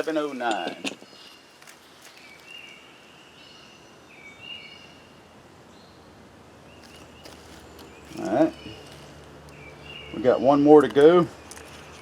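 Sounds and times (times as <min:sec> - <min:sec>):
quiet outdoor hiss: 0:00.0 - 0:12.0.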